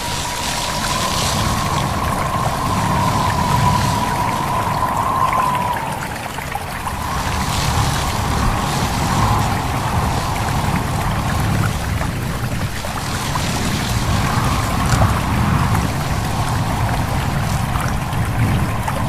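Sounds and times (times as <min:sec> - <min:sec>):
stream babbling: 0:00.0 - 0:19.0
wavering whistle of wind: 0:00.0 - 0:19.0.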